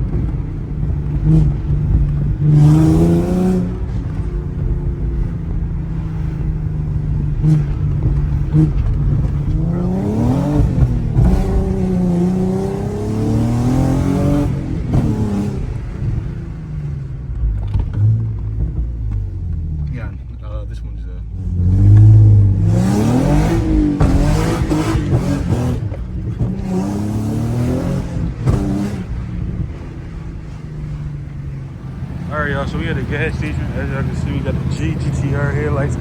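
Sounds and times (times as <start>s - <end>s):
car engine revving: 0.0s - 36.0s
exhaust cracks: 0.0s - 36.0s.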